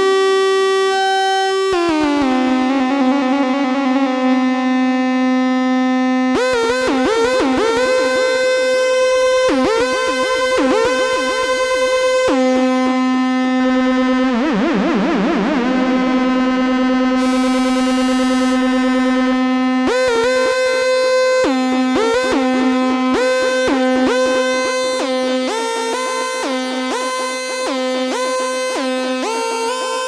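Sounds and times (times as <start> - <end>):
synthesizer notes with filter sweep: 0.0 - 30.0
long held low synth note: 0.8 - 30.0.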